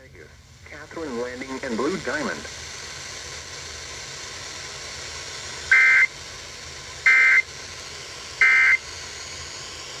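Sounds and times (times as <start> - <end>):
radio hiss: 0.0 - 8.9.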